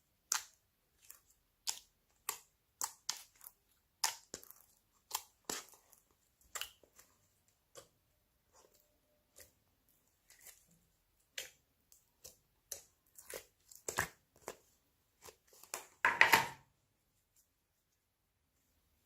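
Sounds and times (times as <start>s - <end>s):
crackly slime squishes: 0.0s - 16.0s
slime crunching: 0.0s - 16.0s.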